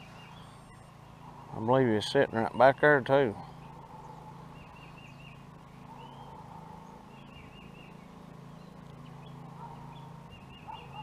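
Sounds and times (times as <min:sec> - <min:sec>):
birds singing: 0:00.0 - 0:11.0
steady low hum: 0:00.0 - 0:11.0.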